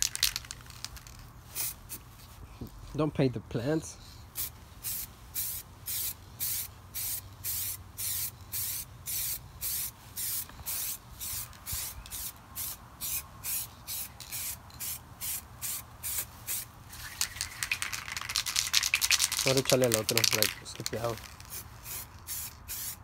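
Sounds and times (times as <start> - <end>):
spray paint can hissing: 0.0 - 2.0, 4.4 - 23.0.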